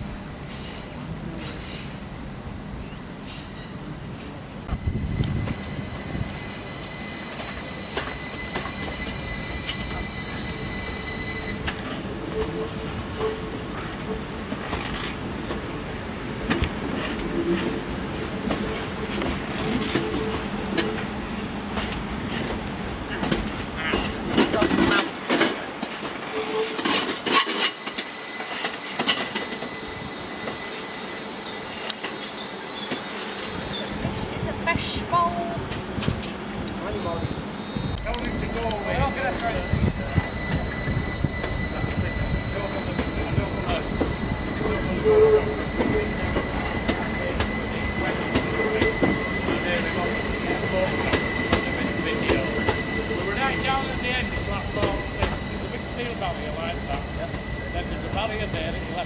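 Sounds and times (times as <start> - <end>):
train rumbling on track: 0.0 - 59.0
train wheels squealing: 0.4 - 2.1, 2.8 - 59.0.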